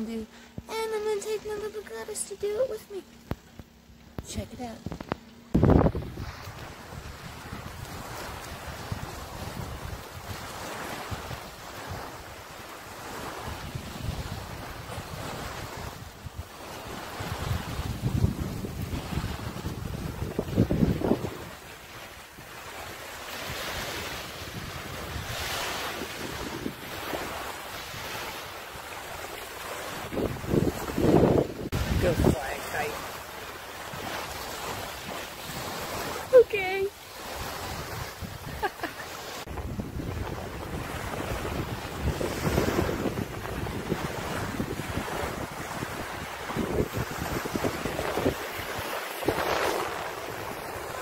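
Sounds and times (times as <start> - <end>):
wind buffeting microphone: 4.2 - 36.6, 37.2 - 51.0
small waves washing on sand: 4.2 - 51.0.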